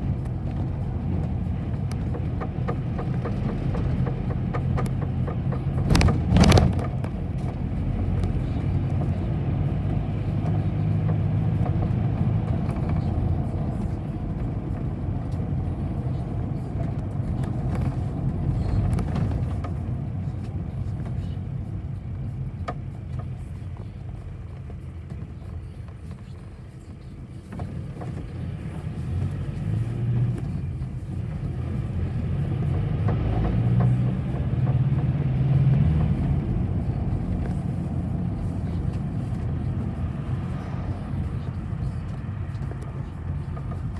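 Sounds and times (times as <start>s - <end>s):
bus engine and road noise: 0.0s - 43.9s.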